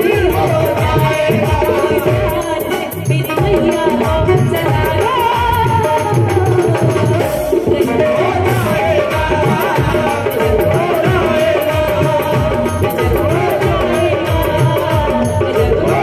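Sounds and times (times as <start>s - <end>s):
steady drum beat: 0.0s - 16.0s
woman singing through pa: 0.0s - 16.0s.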